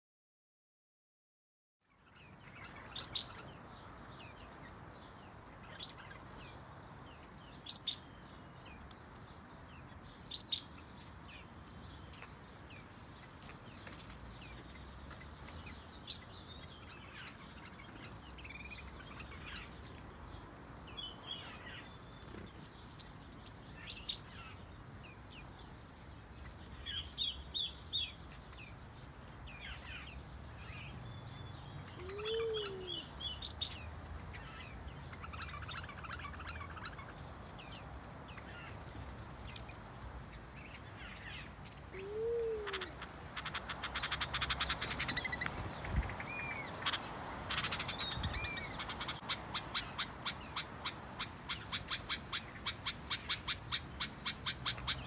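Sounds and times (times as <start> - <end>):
small songbirds chirping: 1.8 - 55.0.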